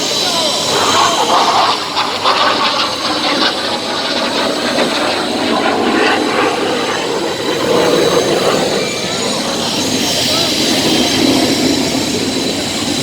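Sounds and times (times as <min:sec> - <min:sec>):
fighter jet engine noise: 0:00.0 - 0:13.0.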